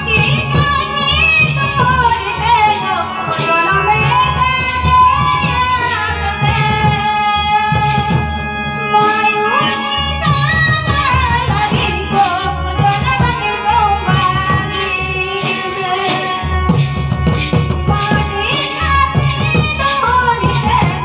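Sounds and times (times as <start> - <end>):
person singing folk song: 0.0 - 21.0
steady drum beat: 0.0 - 21.0.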